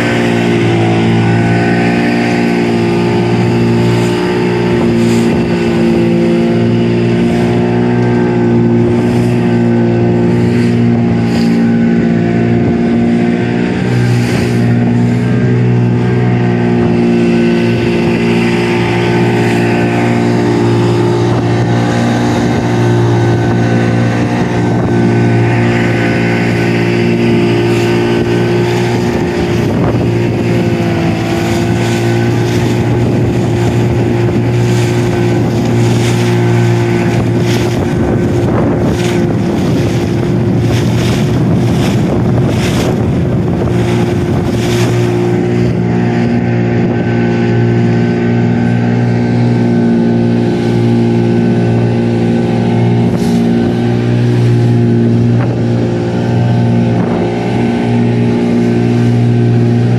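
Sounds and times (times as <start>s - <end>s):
outboard motor running: 0.0s - 59.9s
wind and waves knocking: 0.0s - 59.9s.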